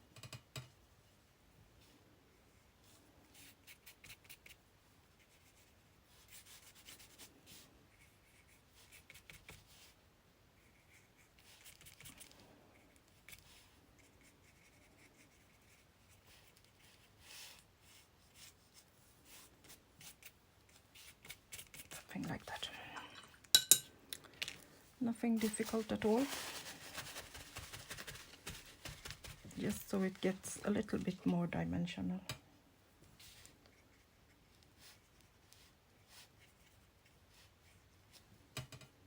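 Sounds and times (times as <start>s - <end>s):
paintbrush strokes on paper: 1.8s - 22.8s, 25.0s - 31.7s, 33.0s - 38.4s.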